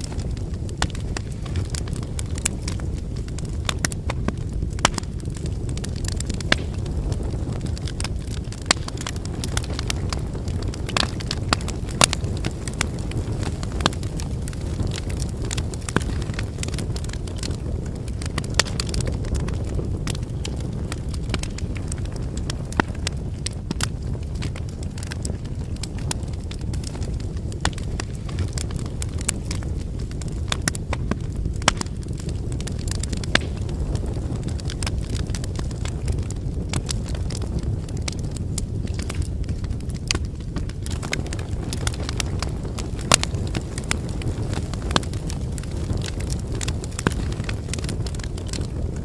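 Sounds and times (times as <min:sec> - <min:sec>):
firewood crackling and popping: 0:00.0 - 0:49.0
low rush of flame: 0:00.0 - 0:49.0.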